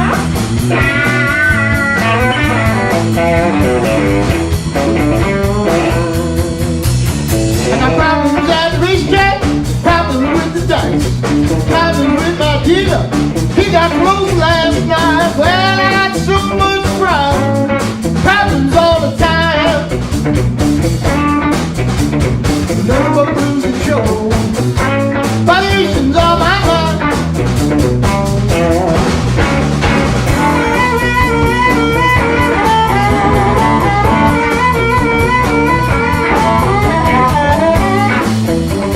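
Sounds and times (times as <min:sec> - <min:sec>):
electric blues band playing: 0:00.0 - 0:38.9
pitch-bending lead guitar: 0:00.0 - 0:38.9.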